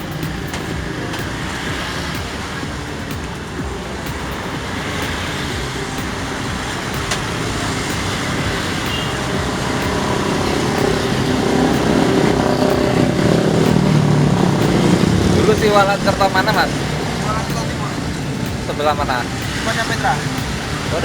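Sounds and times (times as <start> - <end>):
road traffic passing: 0.0 - 21.0
vehicle engine hum: 0.0 - 21.0.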